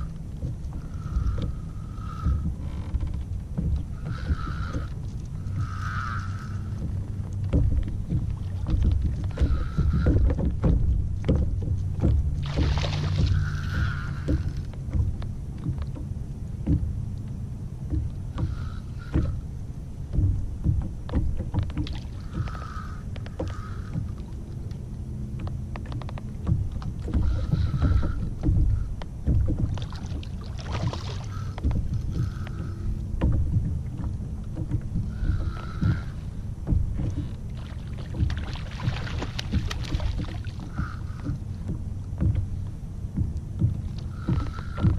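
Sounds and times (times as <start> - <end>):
boat engine humming: 0.0 - 44.9
low steady rumble: 0.0 - 44.9
water slapping against hull: 0.0 - 44.9.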